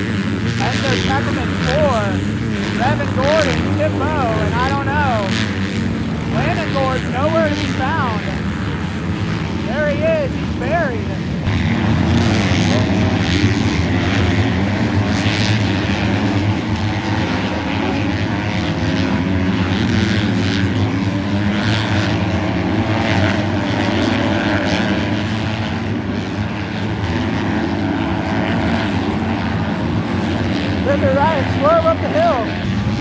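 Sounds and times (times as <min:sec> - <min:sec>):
motocross bikes racing: 0:00.0 - 0:33.0.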